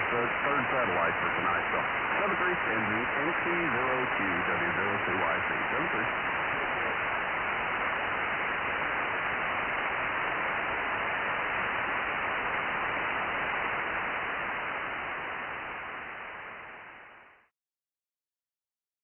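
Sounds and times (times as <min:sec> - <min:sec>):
radio receiver static hiss: 0:00.0 - 0:17.5.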